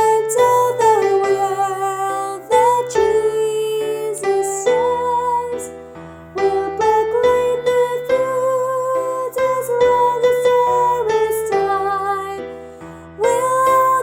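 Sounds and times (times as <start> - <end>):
piano accompaniment: 0.0 - 14.0
woman singing slow melody: 0.0 - 14.0.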